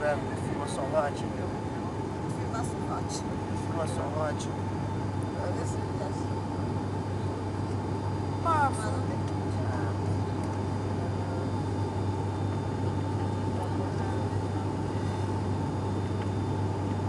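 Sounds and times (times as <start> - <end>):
airplane cabin propeller drone: 0.0 - 17.0.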